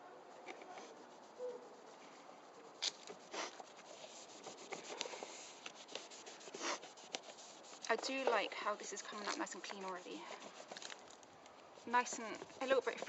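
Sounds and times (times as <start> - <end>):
rubbing and scrubbing a button: 0.4 - 13.0.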